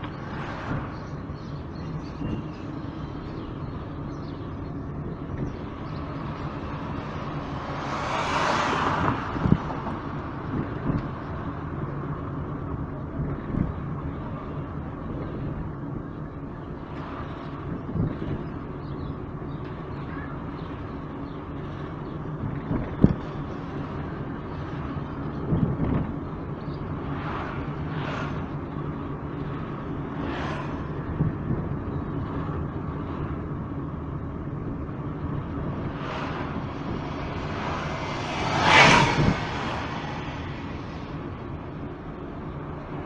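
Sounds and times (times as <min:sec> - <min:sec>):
car engine and road noise: 0:00.0 - 0:43.0
vehicles passing: 0:00.0 - 0:43.0.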